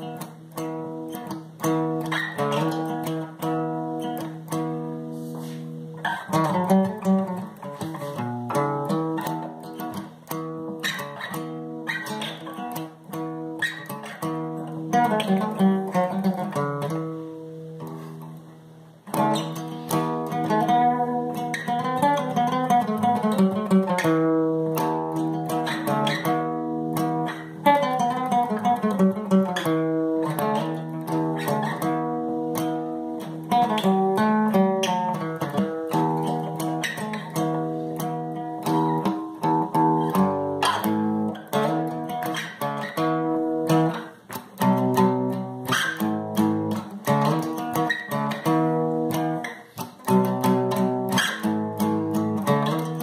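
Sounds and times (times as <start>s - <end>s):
solo guitar playing: 0.0s - 53.0s.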